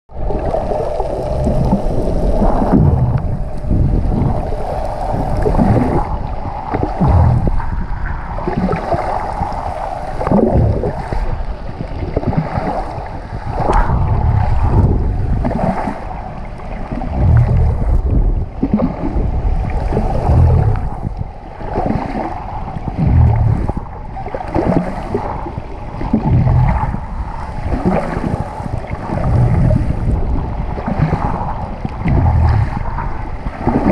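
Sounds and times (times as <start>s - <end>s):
muffled underwater rushing: 0.1s - 33.9s.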